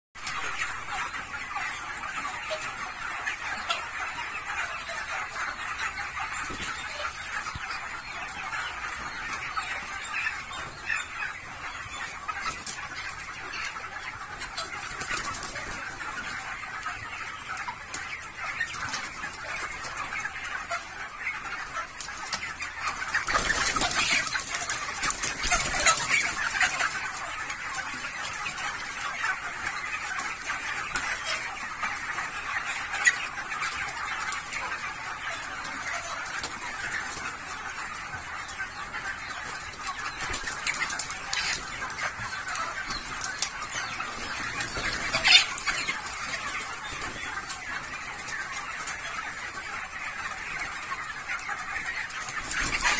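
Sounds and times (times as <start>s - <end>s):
flock of chickens calling: 0.2s - 52.9s.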